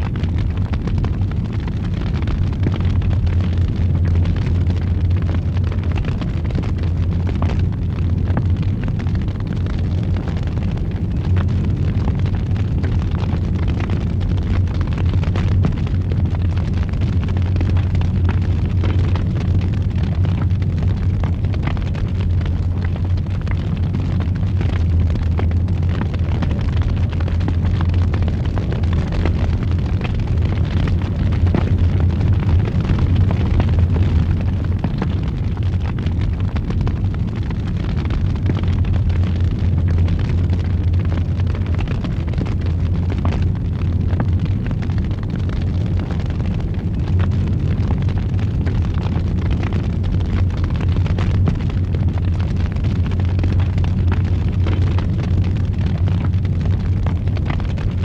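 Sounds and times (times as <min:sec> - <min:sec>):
fire crackling in fireplace: 0:00.0 - 0:58.0.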